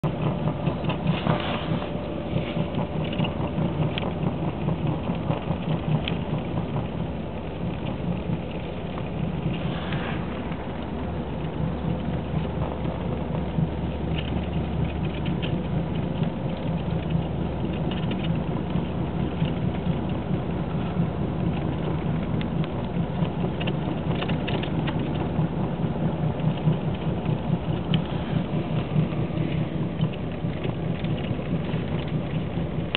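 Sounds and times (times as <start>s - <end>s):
car engine rumble: 0.0s - 32.9s.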